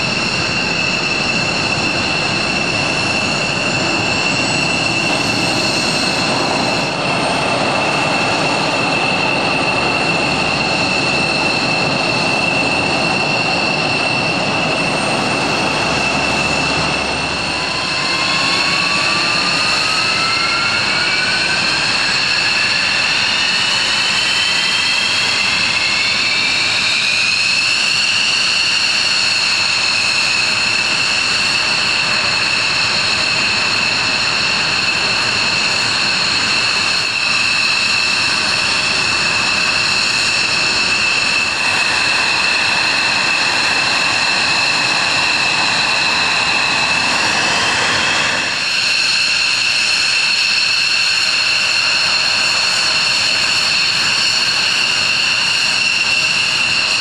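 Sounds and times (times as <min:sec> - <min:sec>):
jet engine whine: 0:00.0 - 0:57.0
rushing jet noise: 0:00.0 - 0:57.0.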